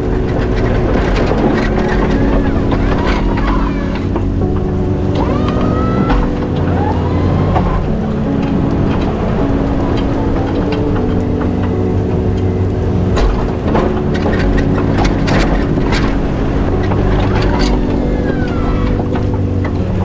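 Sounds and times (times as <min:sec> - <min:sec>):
plow blade scraping snow: 0:00.0 - 0:20.0
truck engine running under load: 0:00.0 - 0:20.0.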